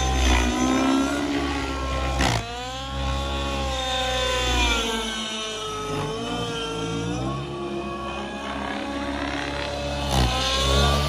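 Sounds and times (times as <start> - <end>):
rc helicopter engine and rotors: 0.0 - 11.0.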